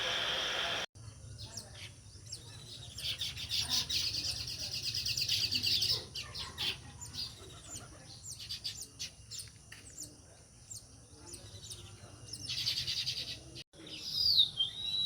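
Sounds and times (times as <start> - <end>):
sparrows chirping: 1.0 - 15.0.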